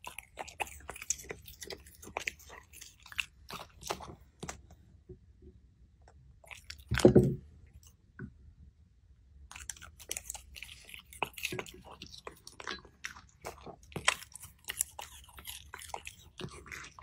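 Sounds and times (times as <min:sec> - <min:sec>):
small dog chewing and crunching food: 0:00.0 - 0:04.8, 0:06.4 - 0:08.0, 0:09.5 - 0:17.0.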